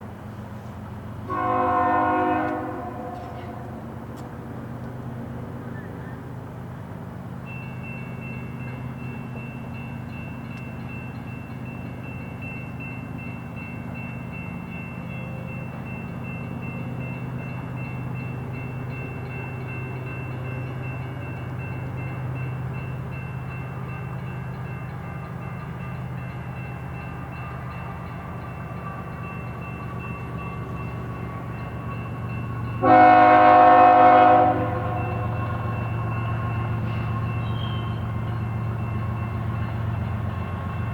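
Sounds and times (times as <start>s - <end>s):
diesel locomotive rumble: 0.0s - 40.9s.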